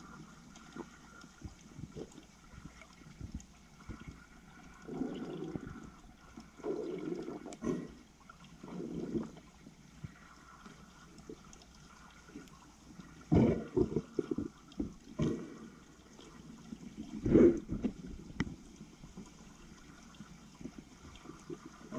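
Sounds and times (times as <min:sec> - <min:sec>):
underwater bubbling: 0:00.0 - 0:21.9.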